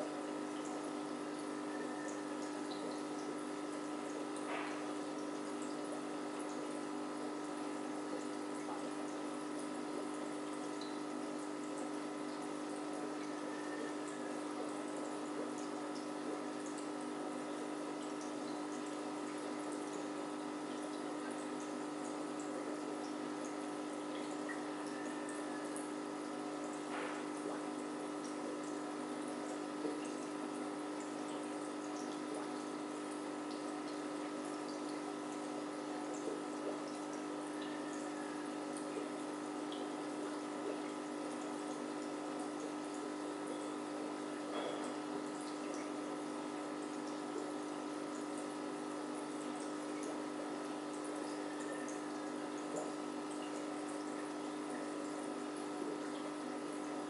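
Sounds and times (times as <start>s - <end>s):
pump humming: 0.0s - 57.0s
small water drips: 0.0s - 57.0s
water trickling and splashing: 0.0s - 57.0s.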